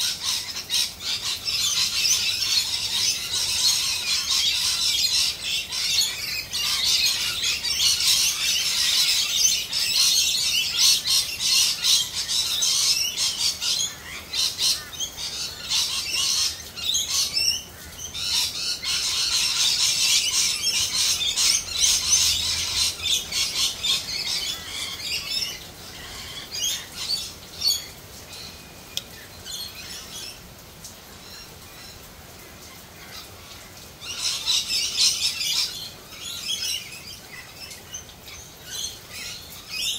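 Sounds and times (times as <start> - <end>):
birds squawking and chattering: 0.0 - 39.9.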